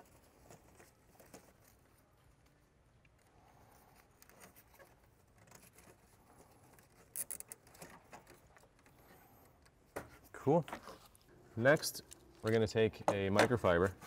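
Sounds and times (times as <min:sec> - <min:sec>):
rubber hose and plastic fittings rustling: 0:00.0 - 0:14.0.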